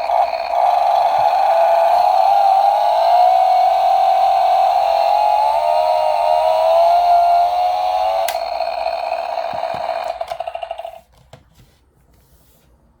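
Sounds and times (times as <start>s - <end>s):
toy chainsaw engine sound effect: 0.0s - 11.0s.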